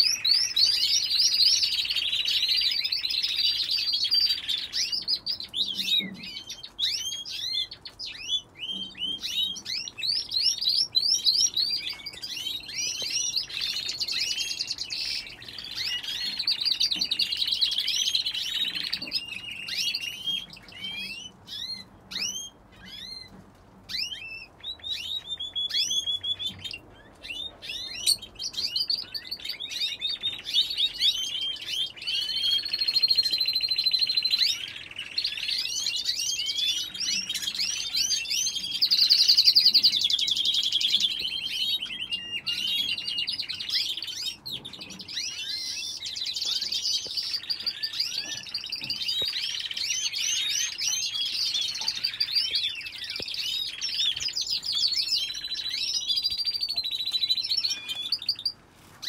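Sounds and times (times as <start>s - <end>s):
canaries singing and chirping: 0.0s - 59.0s.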